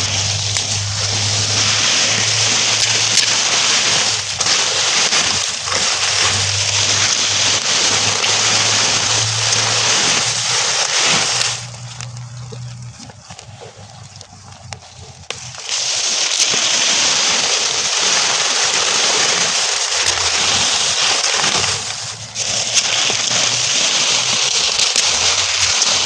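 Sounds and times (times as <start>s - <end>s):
burning straw crackling: 0.0s - 26.0s.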